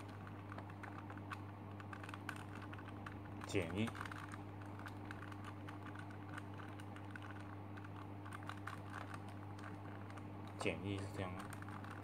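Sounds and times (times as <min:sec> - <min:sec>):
plastic puzzle layers clicking: 0:00.0 - 0:12.0
steady low hum: 0:00.0 - 0:12.0.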